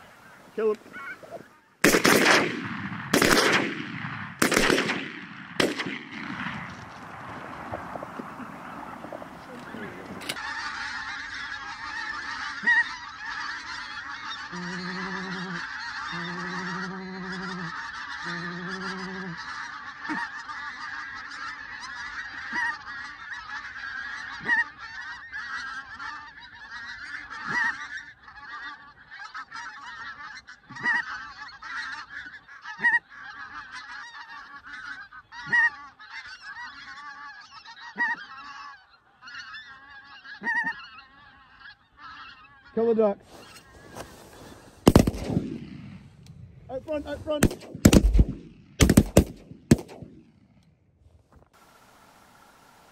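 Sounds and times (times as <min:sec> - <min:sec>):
geese honking: 0:00.0 - 0:50.7.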